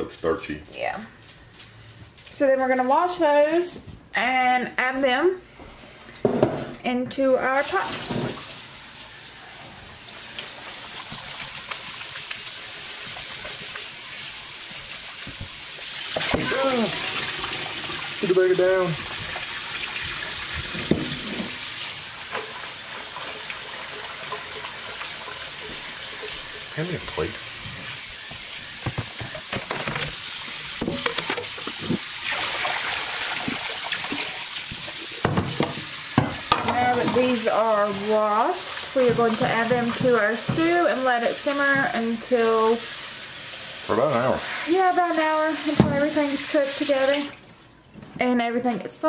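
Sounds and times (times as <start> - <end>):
faucet water running into bowl: 7.4 - 48.0.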